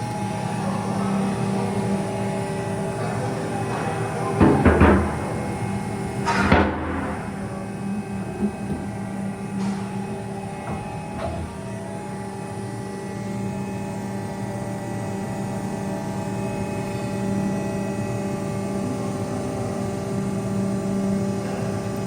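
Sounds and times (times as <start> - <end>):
bending machine humming: 0.0 - 22.0.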